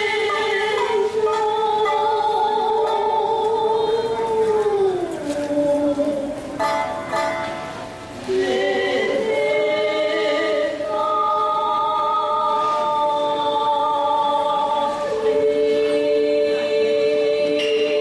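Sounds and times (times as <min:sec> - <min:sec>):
musical accompaniment: 0:00.0 - 0:18.0
voices singing held notes: 0:00.0 - 0:18.0.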